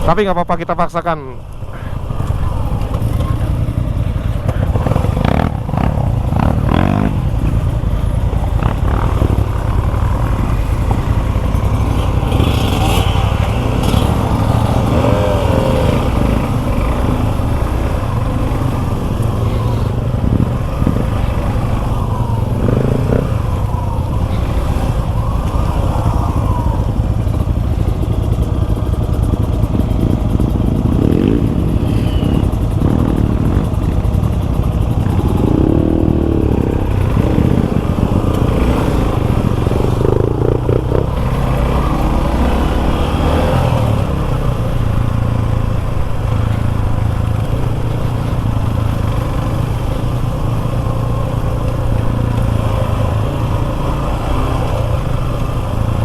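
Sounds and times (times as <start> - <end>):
motorcycle engine riding off-road: 0.0 - 56.0.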